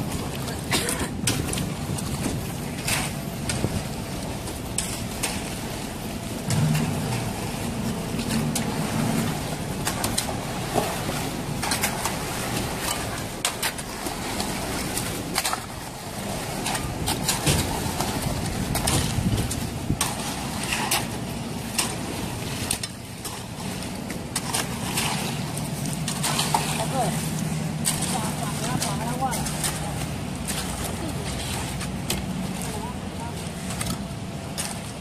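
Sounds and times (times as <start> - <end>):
concrete pump machine rumble: 0.0 - 35.0
shovels scraping wet concrete: 0.2 - 5.7, 8.1 - 35.0.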